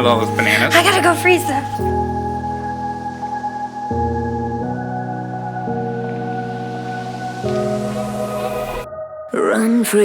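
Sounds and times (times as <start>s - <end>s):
sustained synth chords: 0.0s - 9.3s.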